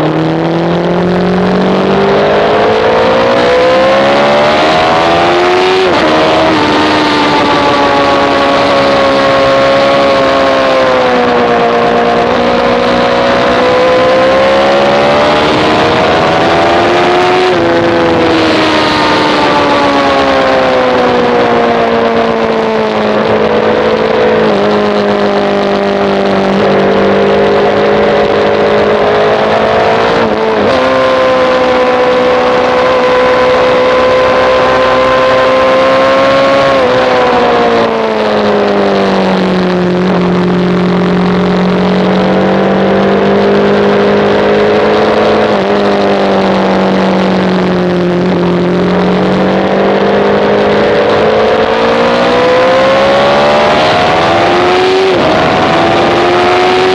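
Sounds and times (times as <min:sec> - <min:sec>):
motorcycle engine at high revs: 0:00.0 - 0:56.9.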